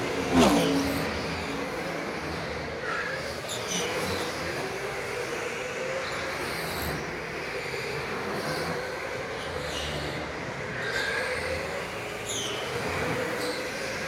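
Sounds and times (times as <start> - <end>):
rolling tyre noise: 0.0 - 14.0.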